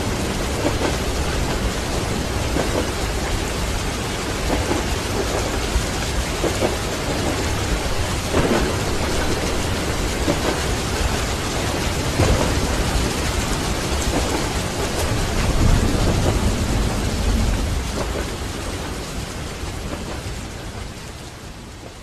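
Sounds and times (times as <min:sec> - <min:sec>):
low rolling thunder: 0:00.0 - 0:21.9
heavy rain: 0:00.0 - 0:22.0.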